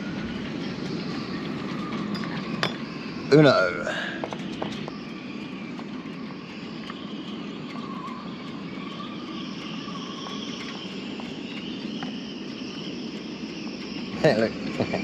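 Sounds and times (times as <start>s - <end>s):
steady outdoor drone: 0.0s - 15.0s.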